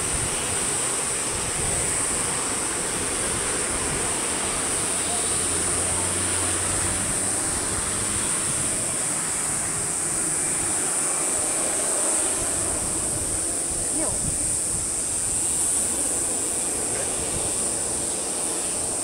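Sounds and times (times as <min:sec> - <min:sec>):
distant jet engines rushing: 0:00.0 - 0:19.0
high-pitched hiss: 0:00.0 - 0:19.0.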